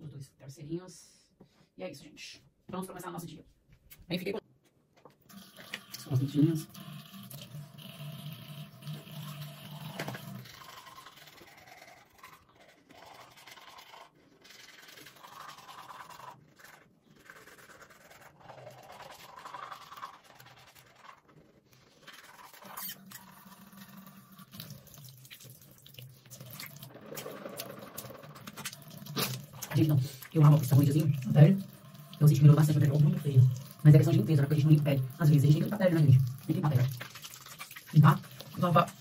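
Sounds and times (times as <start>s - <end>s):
toothbrush scrubbing teeth: 5.3s - 39.0s.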